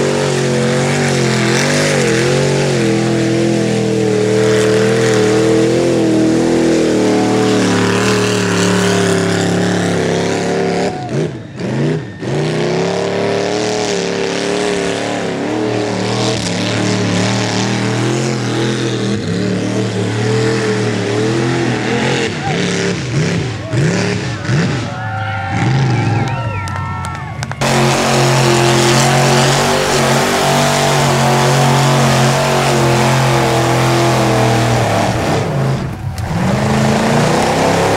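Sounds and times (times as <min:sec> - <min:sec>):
off-road engine revving hard: 0:00.0 - 0:26.8, 0:27.6 - 0:37.9.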